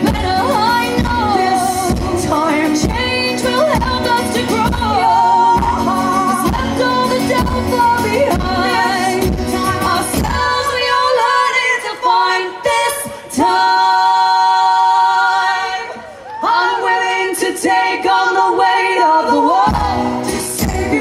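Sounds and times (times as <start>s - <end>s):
women singing in harmony: 0.0s - 21.0s.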